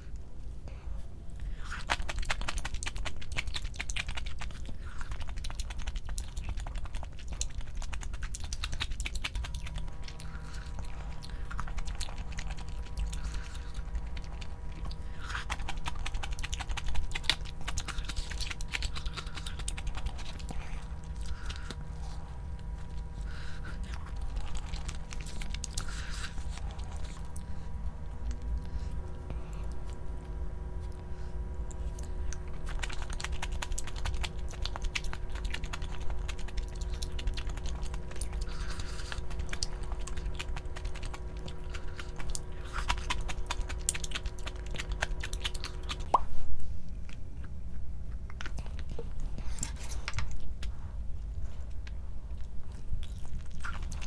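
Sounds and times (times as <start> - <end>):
chewing and crunching food: 0.0 - 54.0
steady low hum: 0.0 - 54.0.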